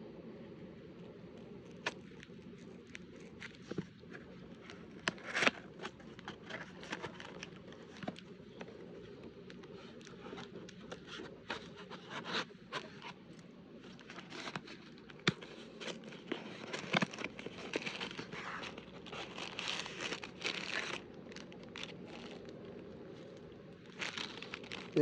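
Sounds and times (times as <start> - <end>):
packaging crinkling and tearing: 1.0 - 25.0.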